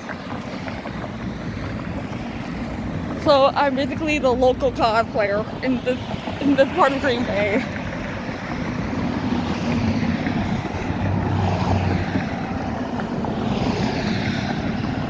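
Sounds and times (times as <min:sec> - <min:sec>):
road traffic: 0:00.0 - 0:15.0
wind noise on microphone: 0:00.0 - 0:15.0.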